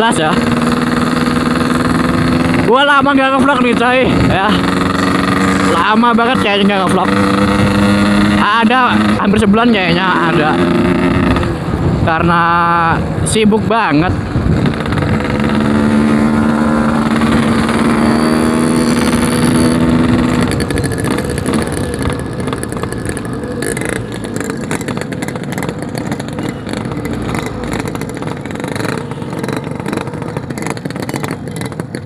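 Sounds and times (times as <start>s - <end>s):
two-stroke motorcycle engine: 0.0s - 32.0s.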